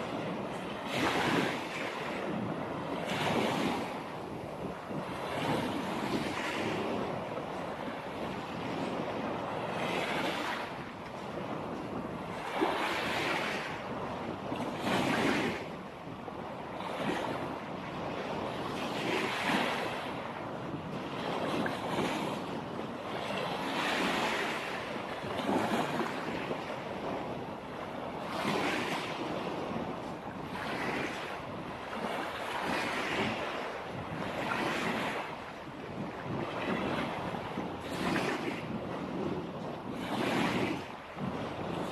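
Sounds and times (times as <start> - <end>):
small waves breaking on shore: 0.0 - 41.9.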